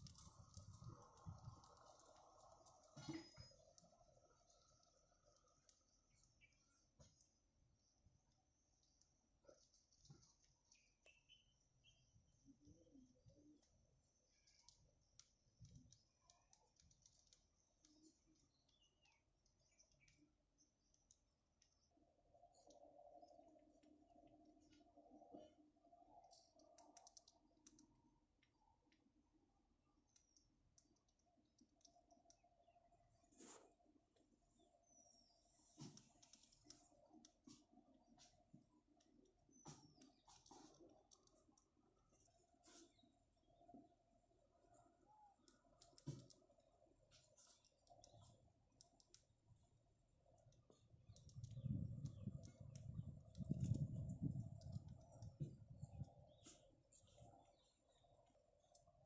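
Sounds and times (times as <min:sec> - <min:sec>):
faint clicks and ticks: 0:00.0 - 0:59.0
faint low hum: 0:00.0 - 0:59.0.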